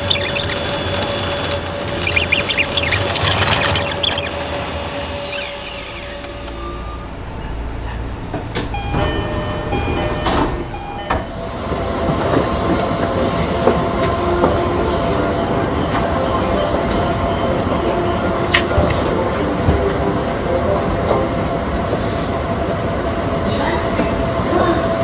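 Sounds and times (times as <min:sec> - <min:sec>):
electric train running at speed: 0:00.0 - 0:25.0
train on next track: 0:03.6 - 0:25.0.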